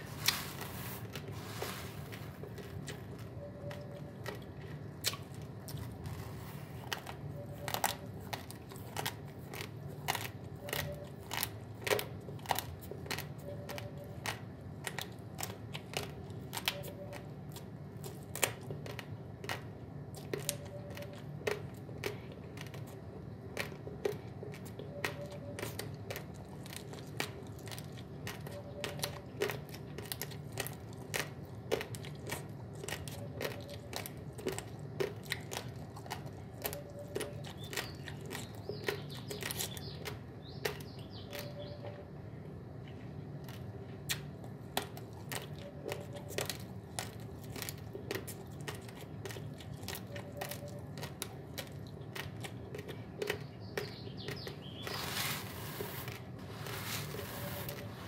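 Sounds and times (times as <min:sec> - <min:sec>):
chewing dry rice crunches: 0:00.0 - 0:58.0.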